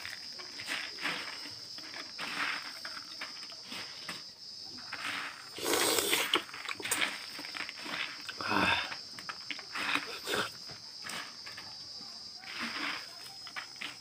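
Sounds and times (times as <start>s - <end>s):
dry puffed rice rustling: 0.0s - 14.0s.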